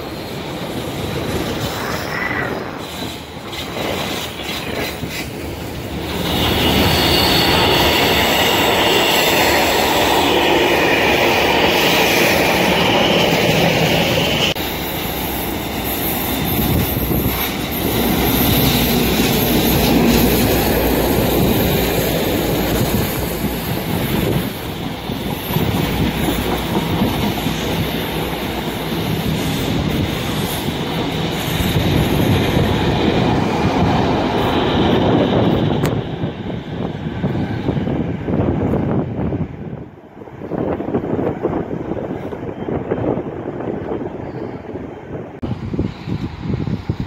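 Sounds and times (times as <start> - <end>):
train wheels squealing: 0.0 - 37.9, 44.0 - 47.0
rumble and clatter of train: 0.0 - 47.0.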